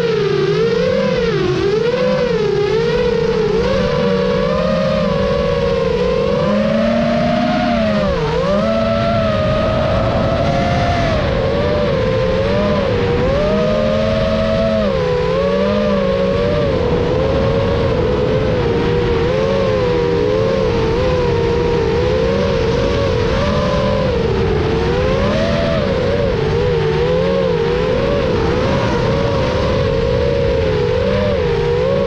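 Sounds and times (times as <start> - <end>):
quadcopter propellers whining: 0.0 - 32.0.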